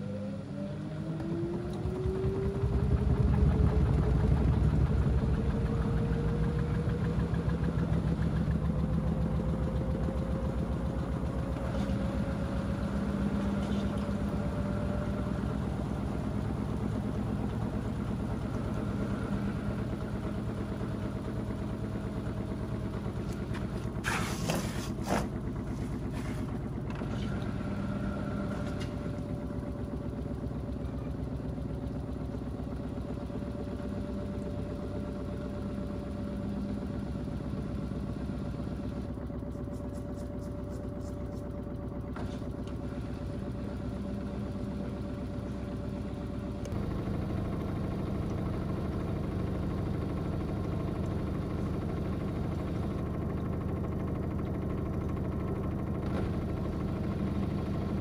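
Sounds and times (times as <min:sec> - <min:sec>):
washing machine motor hum: 0:00.2 - 0:58.0.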